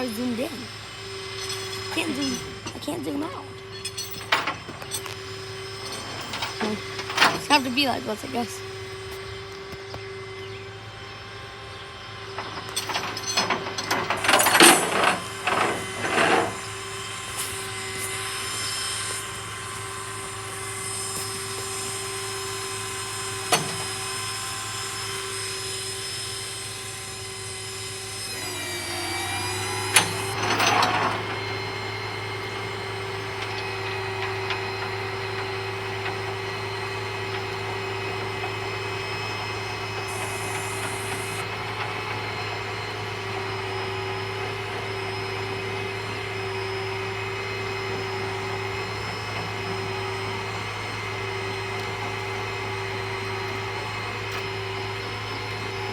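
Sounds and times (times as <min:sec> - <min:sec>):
truck engine humming: 0:00.0 - 0:55.9
loud noisy bursts: 0:10.7 - 0:55.9.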